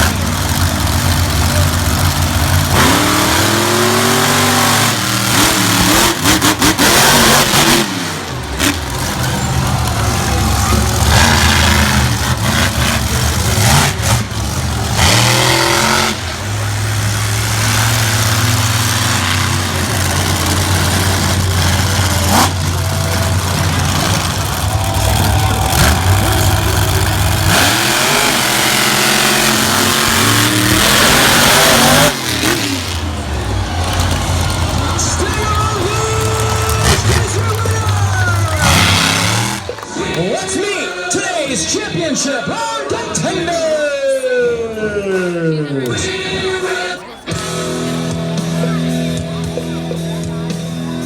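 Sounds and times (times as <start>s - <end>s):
monster truck engines revving: 0.0s - 51.0s.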